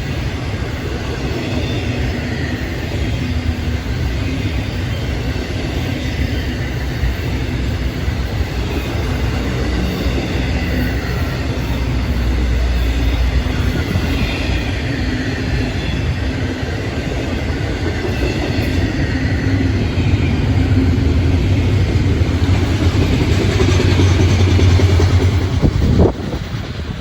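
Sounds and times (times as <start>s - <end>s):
steel wheels rumbling on rails: 0.0s - 27.0s.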